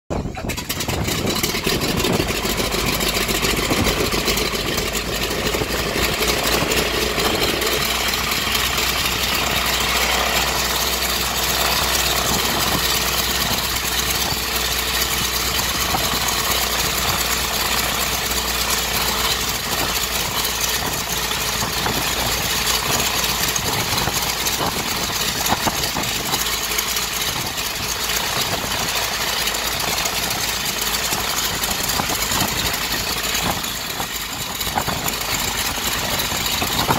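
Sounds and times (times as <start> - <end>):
radial aircraft engine idling: 0.1 - 36.9.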